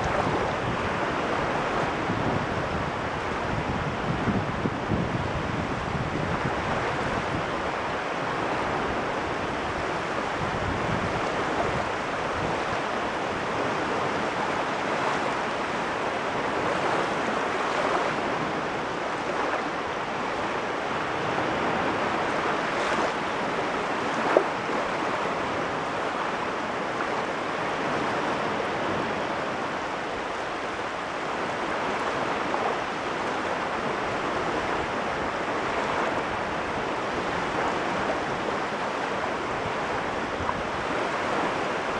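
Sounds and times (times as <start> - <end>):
waves washing onto shore: 0.0 - 41.9.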